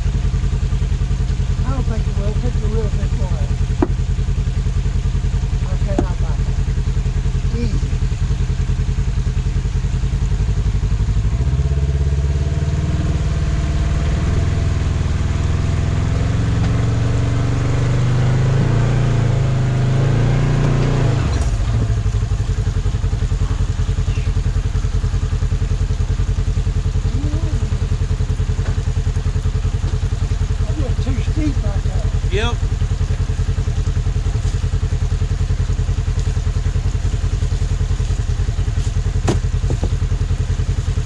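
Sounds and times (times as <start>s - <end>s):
off-road vehicle engine revving: 0.0s - 41.0s.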